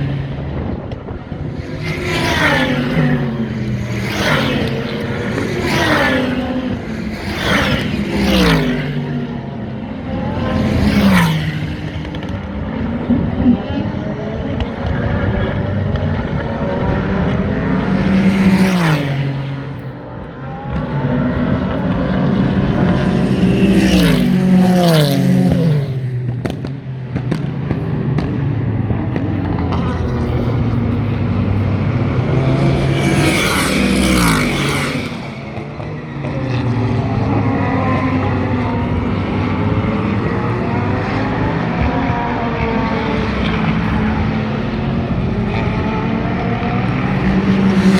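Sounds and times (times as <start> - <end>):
distant car engines on circuit: 0.0 - 47.9
race cars passing at speed: 0.0 - 47.9.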